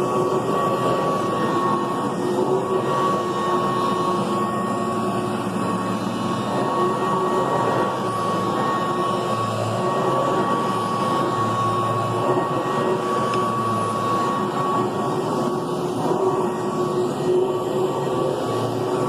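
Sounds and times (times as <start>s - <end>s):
upright vacuum cleaner running: 0.0s - 19.0s.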